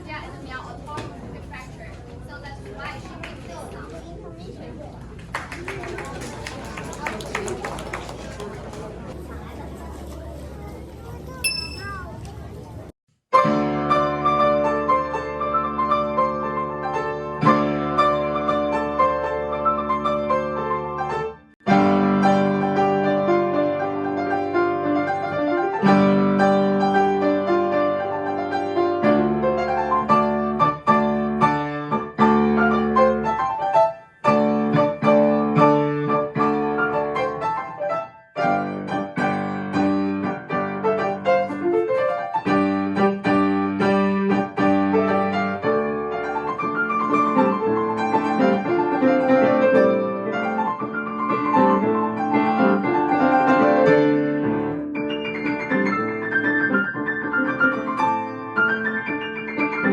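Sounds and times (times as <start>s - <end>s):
lively piano piece: 11.4s - 59.9s.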